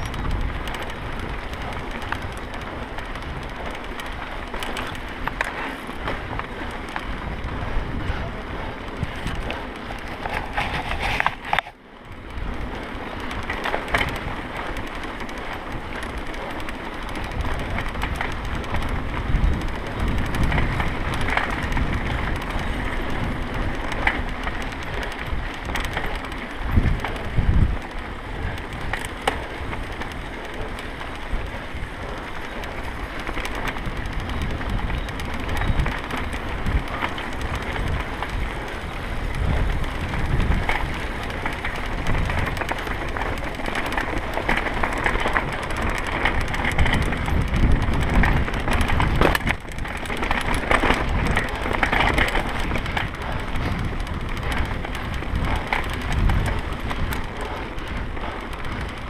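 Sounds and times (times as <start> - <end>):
bike rattling: 0.0 - 59.0
wind on microphone: 0.0 - 59.0.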